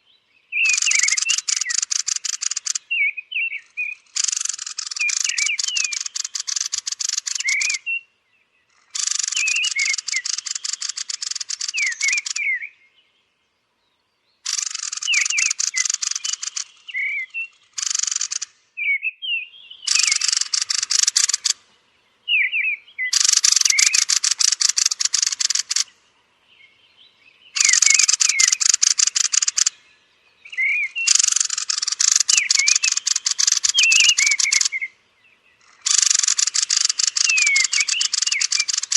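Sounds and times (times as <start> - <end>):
thrushes clicking and whistling: 0.0 - 8.0, 8.7 - 12.7, 14.4 - 18.7, 19.8 - 26.1, 27.5 - 35.0, 35.6 - 38.9.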